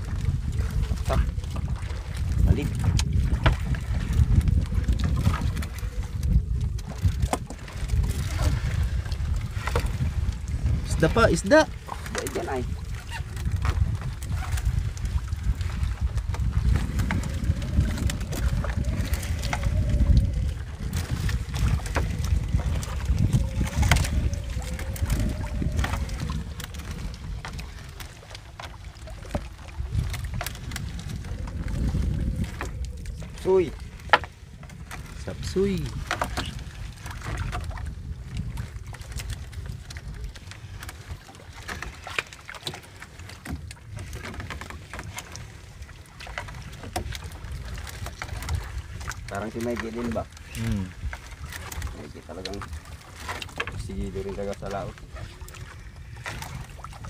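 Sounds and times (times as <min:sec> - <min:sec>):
net and floats knocking hull: 0:00.0 - 0:05.8, 0:06.8 - 0:57.0
wind rumble on microphone: 0:00.0 - 0:57.0.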